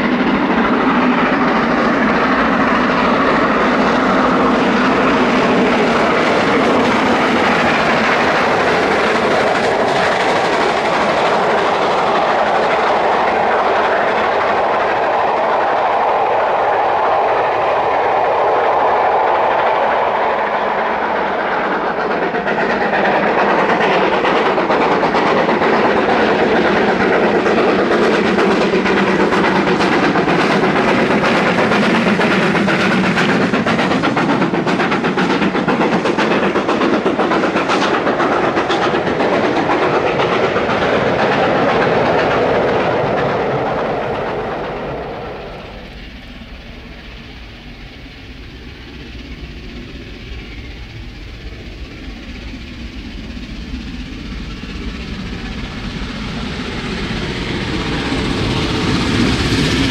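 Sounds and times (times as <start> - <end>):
coach wheels clattering over rail joints: 0.0 - 59.9
distant locomotive: 0.0 - 59.9
steam locomotive working hard: 0.0 - 59.9.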